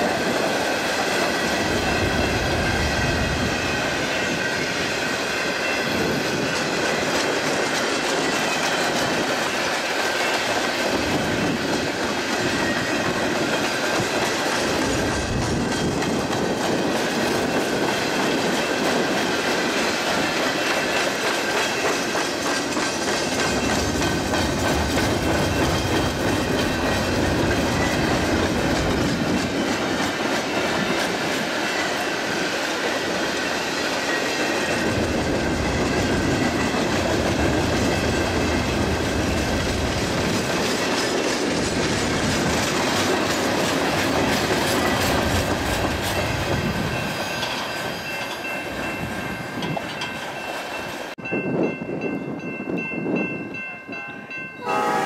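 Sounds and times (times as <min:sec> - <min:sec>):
freight train rumbling past: 0:00.0 - 0:55.0
wheels clicking over rail joints: 0:05.9 - 0:51.2.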